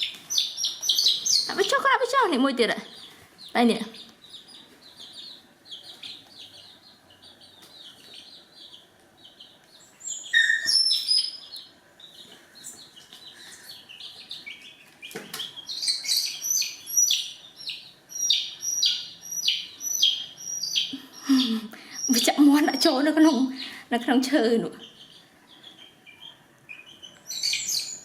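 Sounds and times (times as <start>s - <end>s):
chicks peeping: 0.0s - 28.0s.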